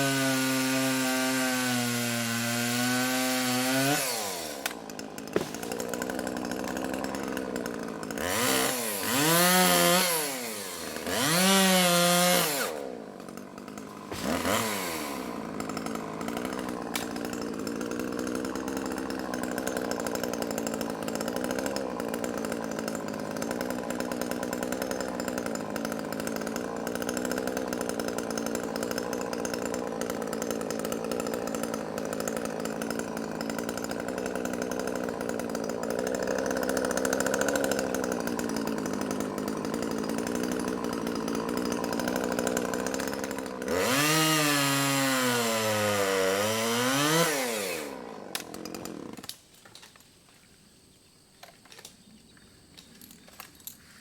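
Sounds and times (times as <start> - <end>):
chainsaw cutting: 0.0 - 50.5.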